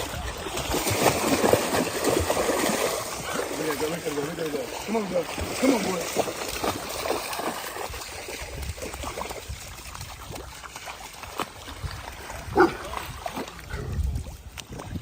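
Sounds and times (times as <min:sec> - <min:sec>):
dogs splashing through water: 0:00.0 - 0:15.0
flowing water: 0:00.0 - 0:15.0.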